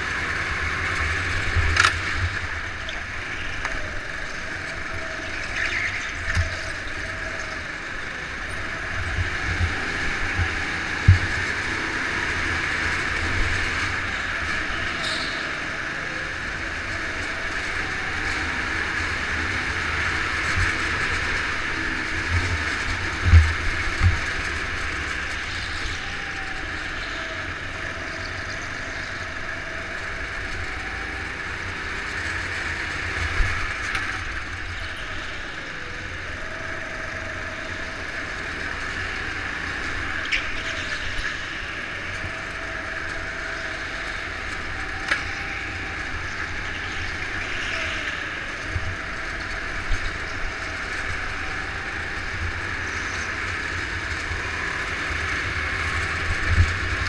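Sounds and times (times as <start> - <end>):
go-kart engine droning: 0.0 - 57.0.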